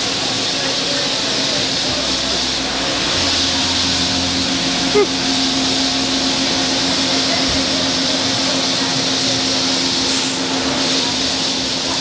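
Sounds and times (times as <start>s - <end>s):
lathe machine hum: 0.0s - 12.0s
burst of loud hiss: 0.2s - 12.0s.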